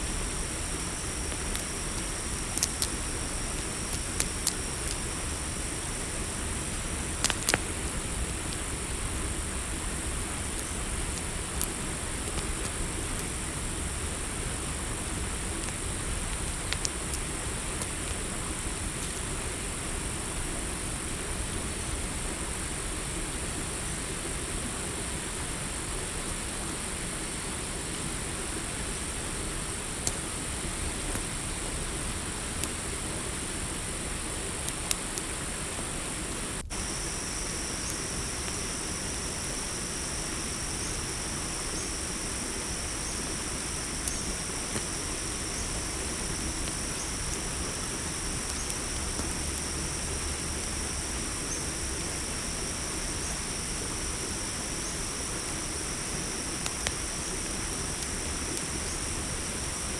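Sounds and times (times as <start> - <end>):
campfire crackling and popping: 0.0 - 21.0, 25.3 - 59.9
crickets chirping: 0.0 - 59.9
lower cricket trill: 0.0 - 59.9.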